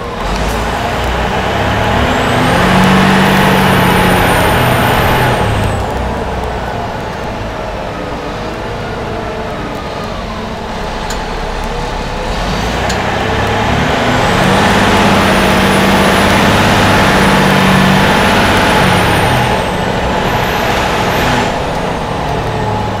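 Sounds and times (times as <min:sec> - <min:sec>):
diesel engine accelerating: 0:00.0 - 0:23.0
high engine whine: 0:00.0 - 0:23.0.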